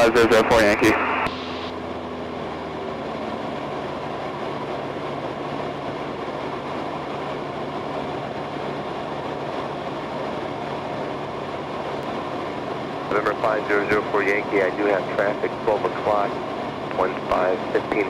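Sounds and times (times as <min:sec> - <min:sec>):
airplane engine and propeller droning: 0:00.0 - 0:18.0.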